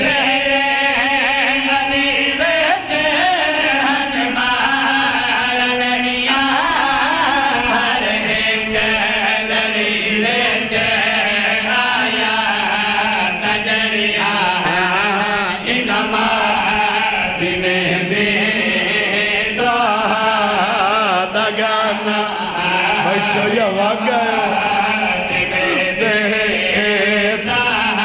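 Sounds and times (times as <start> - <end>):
men singing a chanted lament: 0.0 - 28.0.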